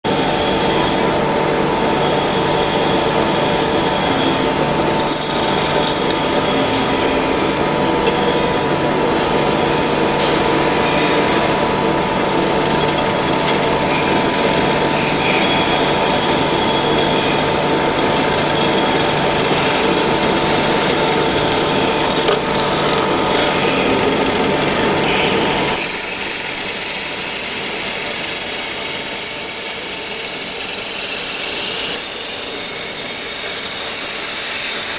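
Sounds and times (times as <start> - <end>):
lathe running with constant whine: 0.0 - 34.9.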